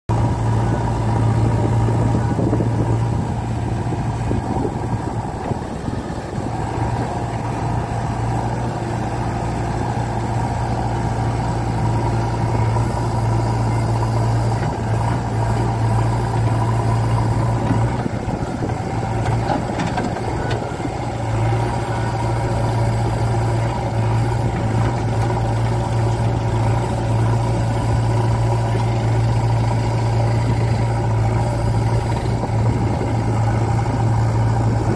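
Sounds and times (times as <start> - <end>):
diesel engine droning: 0.1 - 34.9.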